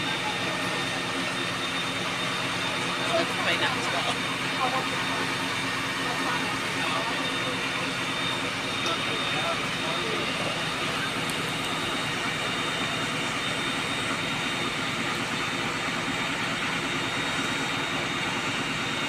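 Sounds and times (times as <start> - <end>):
fire engine pumps droning: 0.0 - 19.0
high whine: 0.0 - 19.0.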